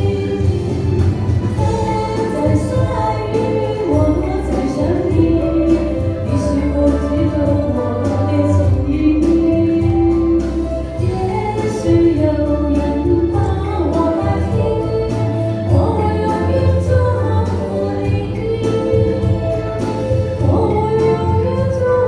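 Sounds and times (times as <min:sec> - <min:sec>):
musical accompaniment with bass: 0:00.0 - 0:22.0
person singing a pop ballad: 0:00.0 - 0:22.0.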